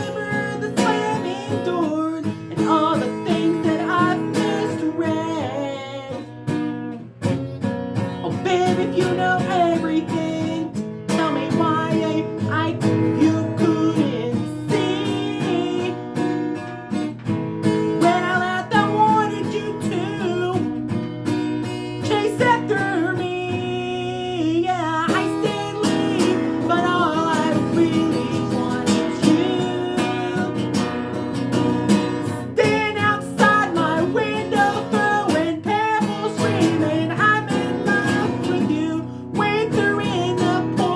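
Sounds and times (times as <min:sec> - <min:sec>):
person singing pop-country song: 0:00.0 - 0:40.9
strummed acoustic guitar: 0:00.0 - 0:40.9.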